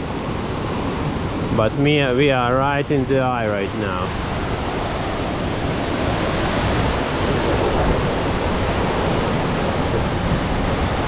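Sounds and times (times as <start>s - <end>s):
strong wind rushing: 0.0s - 11.0s
wind buffeting microphone: 0.0s - 11.0s.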